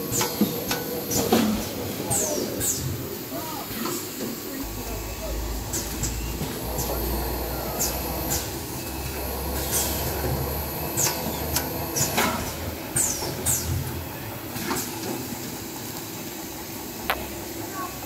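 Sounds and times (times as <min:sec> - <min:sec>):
factory machinery running: 0:00.0 - 0:18.0.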